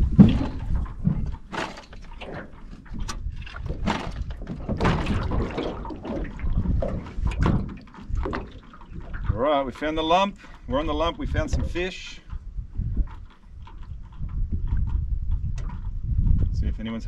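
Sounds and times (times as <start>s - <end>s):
knocks and clatter in metal boat: 0.0s - 17.0s
water sloshing against hull: 0.0s - 17.0s.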